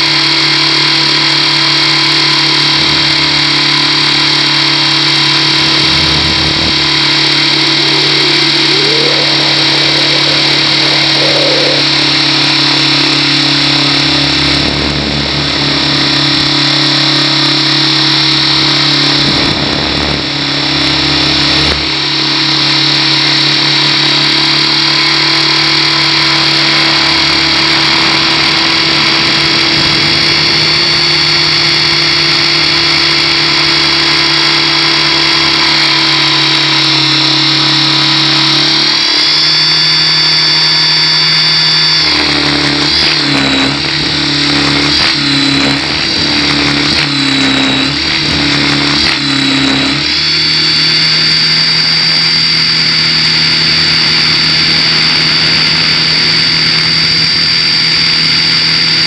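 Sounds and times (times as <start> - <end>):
model helicopter whine: 0.0 - 59.0
rotor hum: 0.0 - 59.0.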